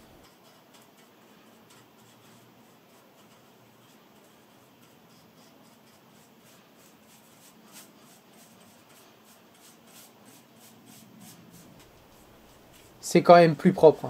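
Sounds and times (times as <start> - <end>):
paintbrush strokes on metal: 0.0 - 14.0.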